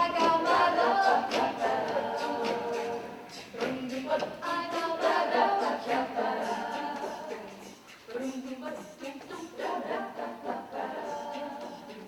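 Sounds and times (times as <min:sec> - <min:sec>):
a cappella group singing harmony: 0:00.0 - 0:12.0.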